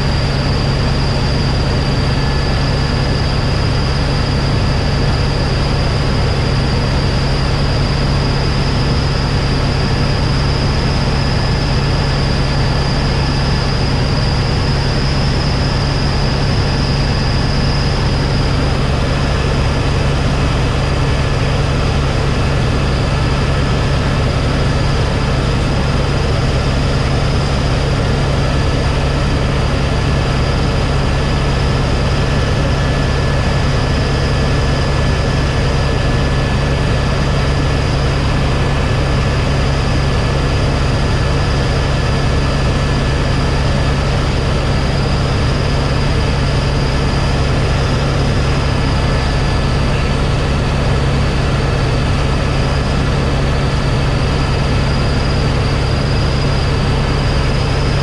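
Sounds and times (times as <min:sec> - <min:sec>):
constant high whine: 0:00.0 - 0:58.0
helicopter cabin drone: 0:00.0 - 0:58.0.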